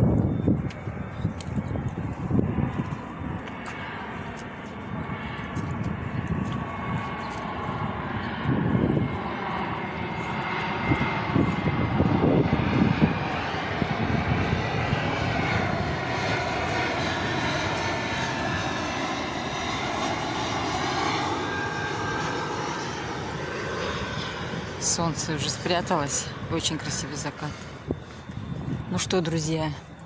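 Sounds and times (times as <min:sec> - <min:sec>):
airliner engine rumble: 0:00.0 - 0:30.0.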